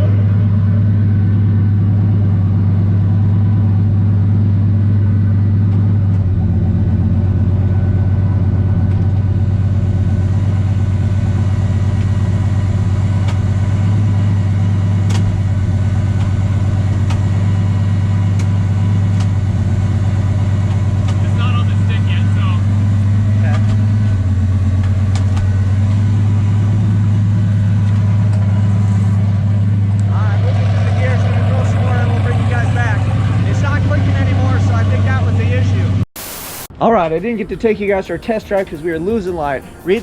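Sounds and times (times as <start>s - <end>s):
car engine idling: 0.0s - 36.0s, 36.8s - 40.0s.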